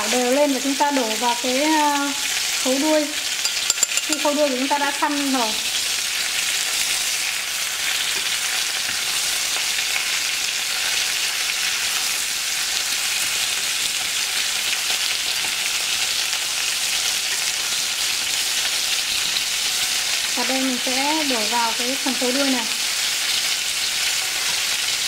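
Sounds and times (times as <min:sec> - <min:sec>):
meat sizzling in a pot: 0:00.0 - 0:25.0.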